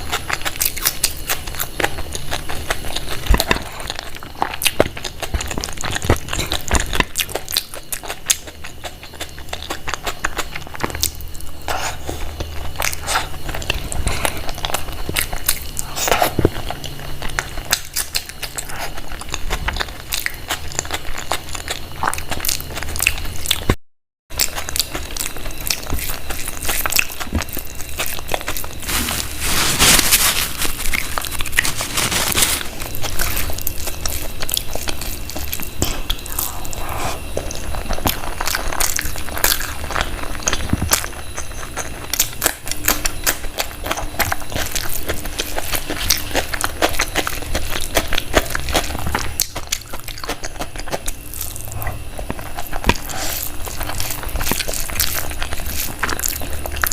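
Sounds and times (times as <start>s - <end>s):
person chewing food: 0.0s - 56.9s.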